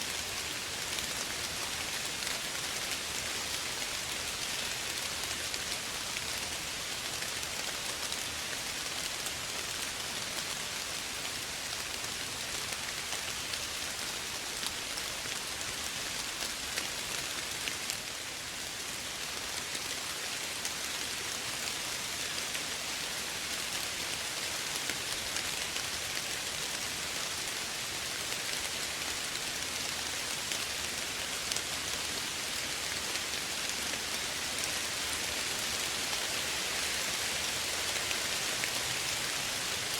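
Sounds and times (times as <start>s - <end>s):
light rain patter: 0.0s - 39.9s.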